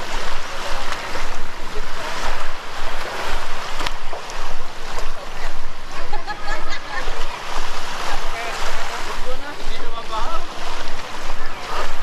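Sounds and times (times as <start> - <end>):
surf rushing: 0.0 - 12.0
wind: 0.0 - 12.0.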